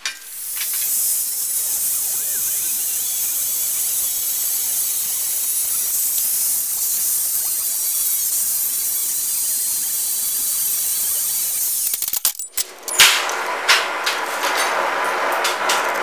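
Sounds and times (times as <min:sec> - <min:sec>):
angle grinder on steel: 0:00.0 - 0:16.0
faint wavering whine: 0:00.0 - 0:16.0.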